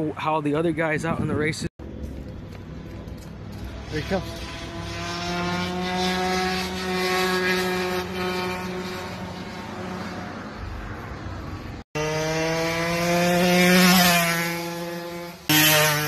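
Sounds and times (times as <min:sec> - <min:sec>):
two-stroke engine buzzing: 0:02.1 - 0:11.1, 0:11.9 - 0:16.0.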